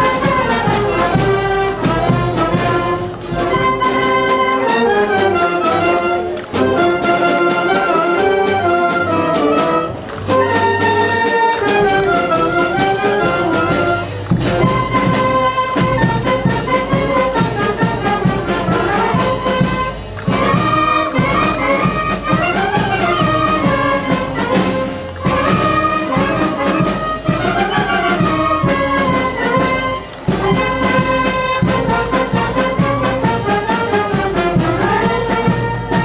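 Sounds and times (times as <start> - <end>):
brass band playing dance tune: 0.0 - 36.0.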